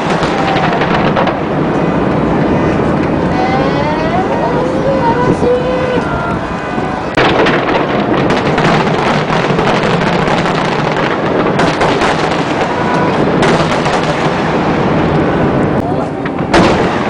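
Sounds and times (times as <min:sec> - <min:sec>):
fireworks booming and crackling: 0:00.0 - 0:17.0.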